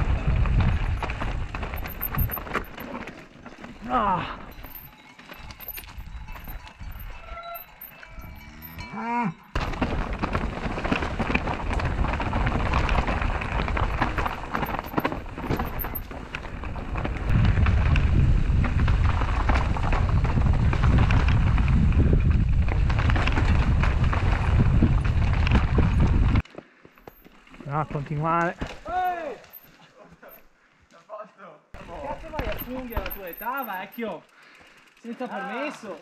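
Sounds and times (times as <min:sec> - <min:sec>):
bike tyres crunching over stones: 0:00.0 - 0:08.7, 0:09.6 - 0:30.4, 0:31.8 - 0:36.0.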